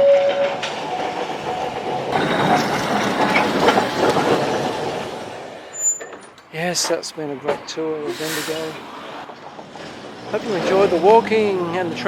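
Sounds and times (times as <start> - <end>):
tram wheels rattling on rails: 0.0 - 12.0.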